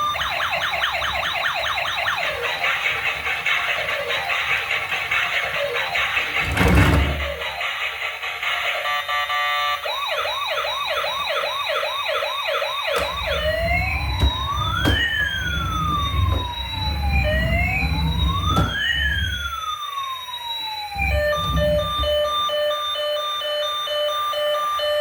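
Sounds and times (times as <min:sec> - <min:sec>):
emergency vehicle siren: 0:00.0 - 0:25.0.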